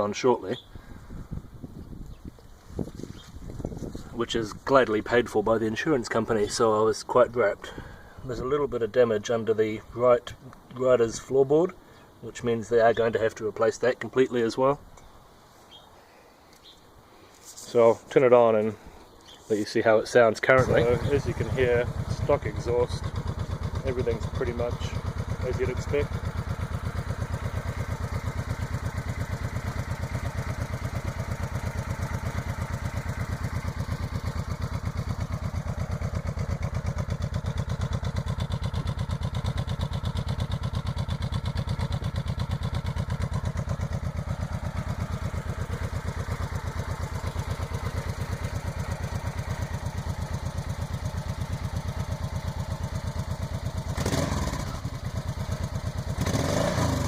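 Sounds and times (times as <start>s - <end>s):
motorcycle engine idling: 0.6s - 10.4s, 20.4s - 57.0s.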